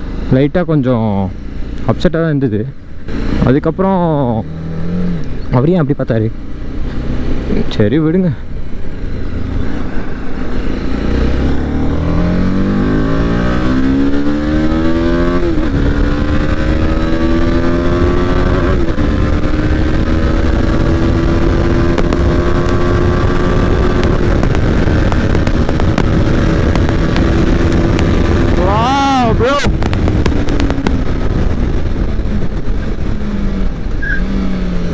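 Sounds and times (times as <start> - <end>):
low wind rumble: 0.0 - 34.9
motorcycle engine revving: 2.8 - 8.0, 8.7 - 34.9.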